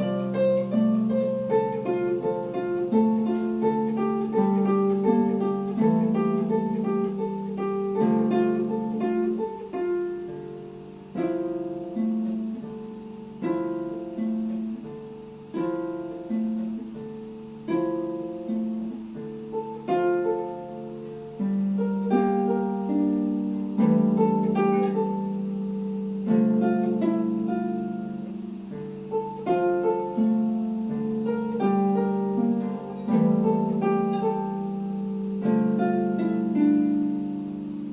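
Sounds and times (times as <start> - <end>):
harp playing: 0.0 - 37.9.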